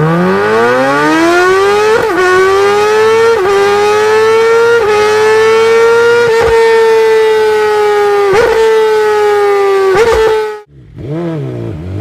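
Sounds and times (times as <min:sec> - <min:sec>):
motorcycle engine revving with upshifts: 0:00.0 - 0:12.0.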